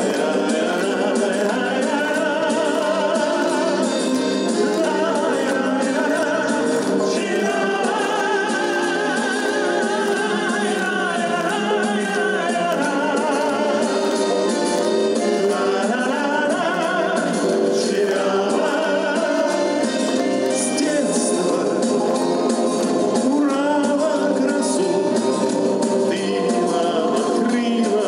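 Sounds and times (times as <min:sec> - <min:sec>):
instrumental accompaniment: 0:00.0 - 0:28.0
voices singing with vibrato: 0:00.0 - 0:28.0.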